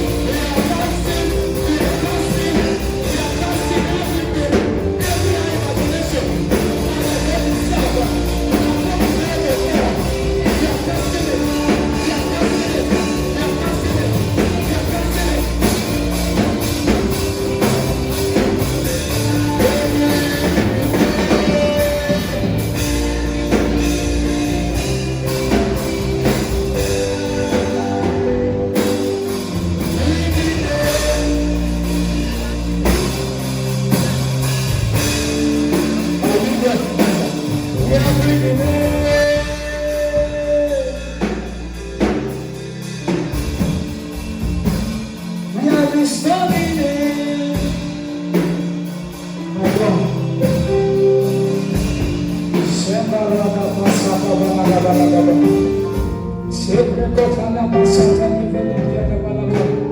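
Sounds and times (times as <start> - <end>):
person singing: 0.0 - 44.1, 45.2 - 59.9
drum kit beat: 0.0 - 59.9.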